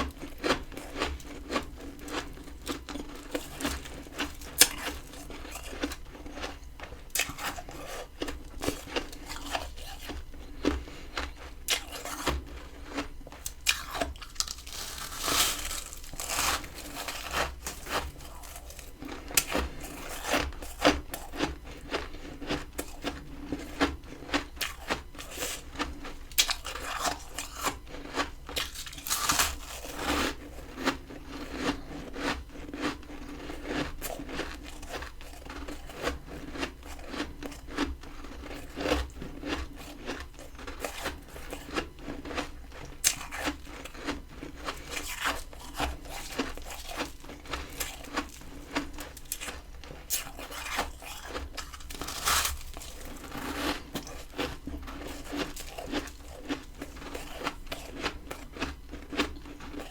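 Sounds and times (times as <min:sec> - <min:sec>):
frost crunching when chewed: 0:00.0 - 0:59.9.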